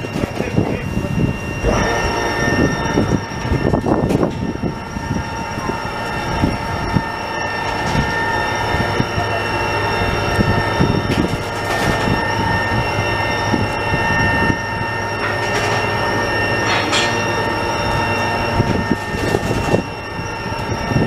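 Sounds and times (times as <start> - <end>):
winch whining and rumbling: 0.0 - 21.0.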